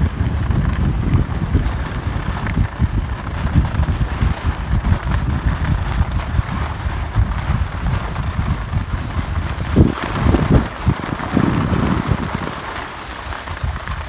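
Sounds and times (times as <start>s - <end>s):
skis sliding on snow: 0.0s - 14.0s
wind buffeting microphone: 0.0s - 14.0s.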